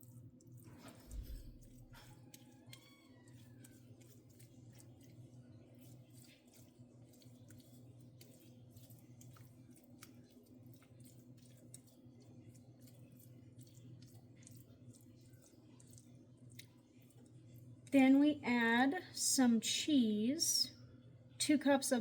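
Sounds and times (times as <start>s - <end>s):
spoon spreading spinach: 0.0s - 18.0s
low steady hum: 0.0s - 22.0s.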